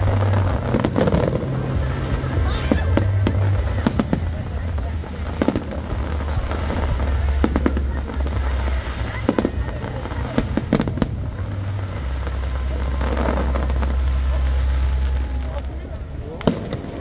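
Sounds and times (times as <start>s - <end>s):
fireworks bangs: 0.0s - 17.0s
steady low rumble: 0.0s - 17.0s.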